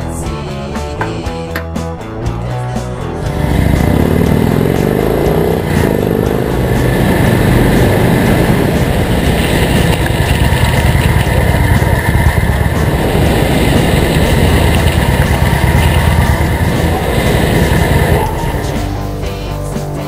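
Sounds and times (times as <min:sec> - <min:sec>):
motorcycle engine riding: 0:02.8 - 0:20.0
wind rumble: 0:03.2 - 0:19.3.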